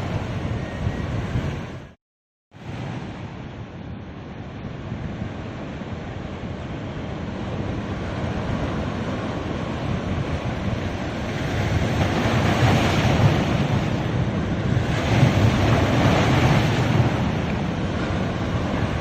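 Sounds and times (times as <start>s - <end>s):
ocean waves breaking on beach: 2.6s - 19.0s.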